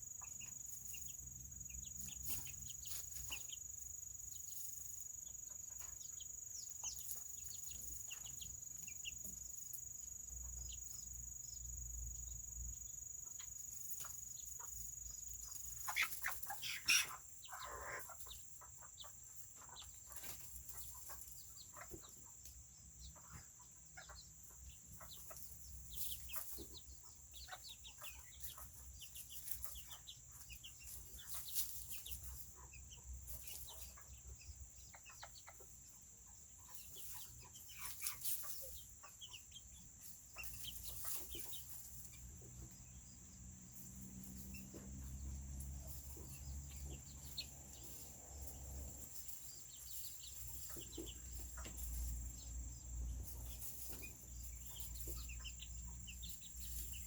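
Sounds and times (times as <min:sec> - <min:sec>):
chickens clucking and chirping: 0:00.0 - 0:57.0
small scattered ticks: 0:00.0 - 0:57.0.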